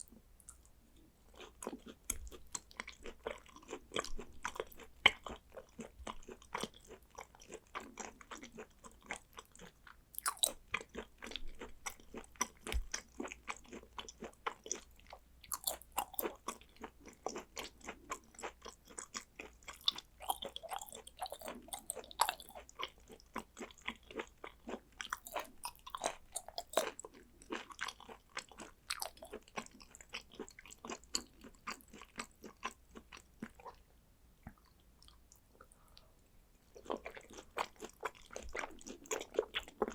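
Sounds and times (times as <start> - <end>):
wet chewing and smacking: 0.0 - 33.8, 34.4 - 39.9.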